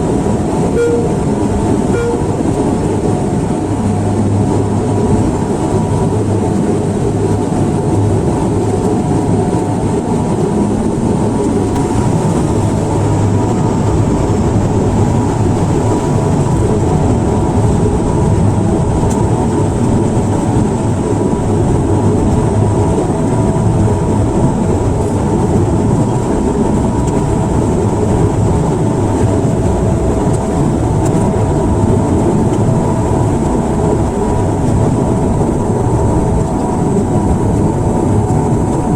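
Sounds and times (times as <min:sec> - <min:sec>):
airliner engine drone: 0:00.0 - 0:38.9
steady humming tones: 0:00.0 - 0:38.9.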